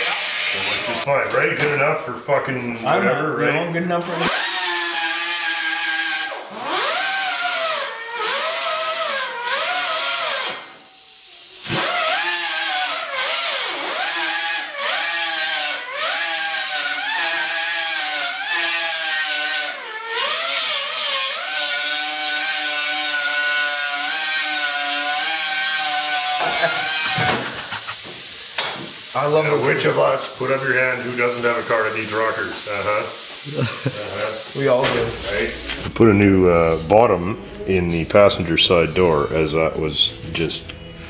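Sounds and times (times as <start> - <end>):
angle grinder cutting metal: 0.0 - 1.1, 4.0 - 35.9.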